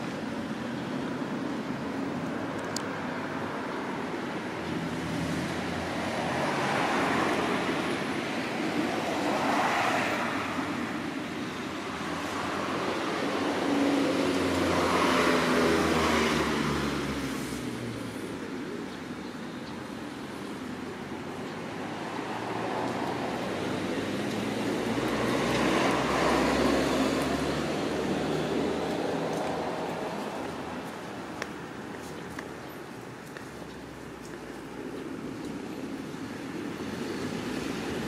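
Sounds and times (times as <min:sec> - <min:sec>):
vehicles passing: 0:00.0 - 0:38.0.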